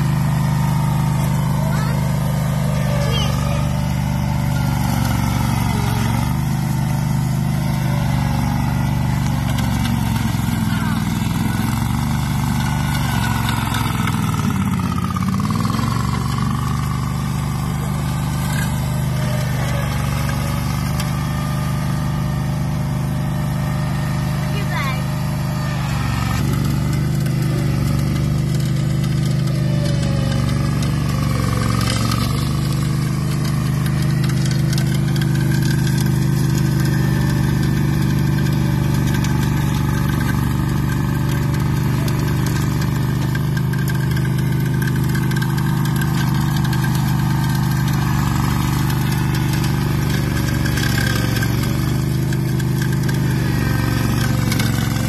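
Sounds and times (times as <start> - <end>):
ride-on mower engine running: 0.0 - 55.0.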